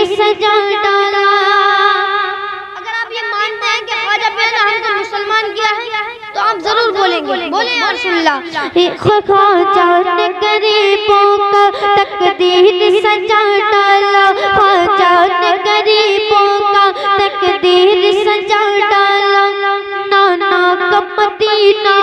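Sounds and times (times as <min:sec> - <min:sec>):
boy singing through microphone: 0:00.0 - 0:22.0.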